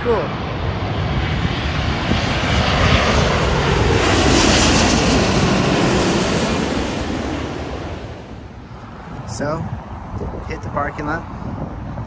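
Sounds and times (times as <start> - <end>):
high engine whine: 0.0 - 12.0
jet airliner passing overhead: 0.0 - 12.0.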